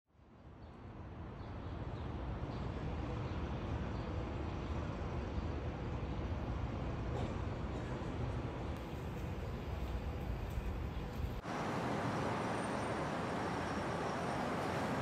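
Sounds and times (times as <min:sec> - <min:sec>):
low rumble of traffic: 0:00.1 - 0:15.0.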